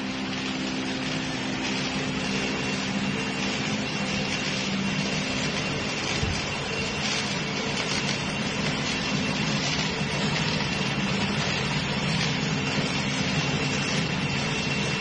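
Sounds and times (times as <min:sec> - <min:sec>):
laminator rollers humming: 0:00.0 - 0:15.0.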